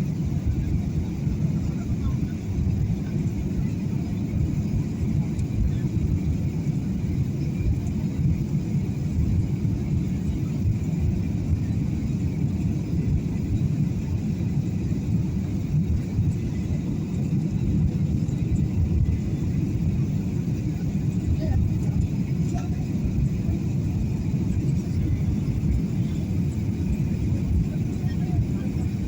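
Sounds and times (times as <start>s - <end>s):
low rumble of engines and airflow: 0.0s - 29.0s.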